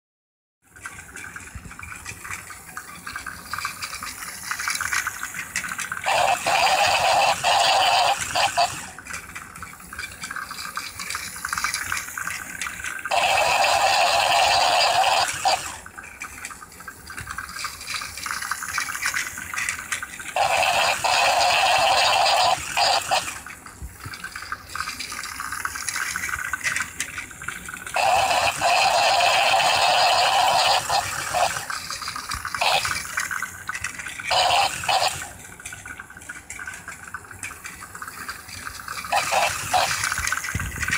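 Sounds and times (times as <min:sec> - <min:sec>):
toy train motor whirring: 0:00.7 - 0:40.9.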